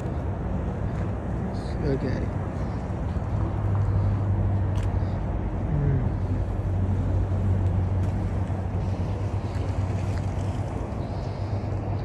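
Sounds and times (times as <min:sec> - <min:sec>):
outdoor noise: 0:00.0 - 0:12.0
vehicle engine idling: 0:00.0 - 0:12.0.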